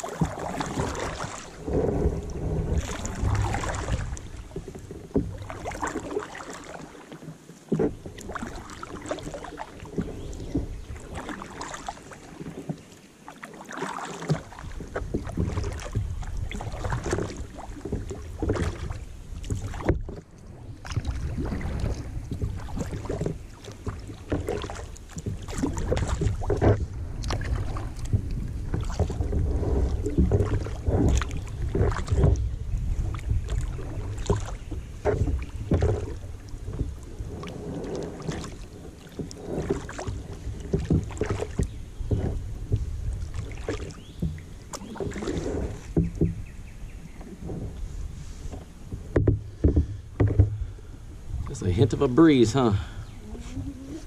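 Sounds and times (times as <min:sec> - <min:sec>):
wind rumble on microphone: 0:00.0 - 0:06.1, 0:07.9 - 0:11.7, 0:14.5 - 0:54.0
paddle strokes splashing in water: 0:00.0 - 0:54.0.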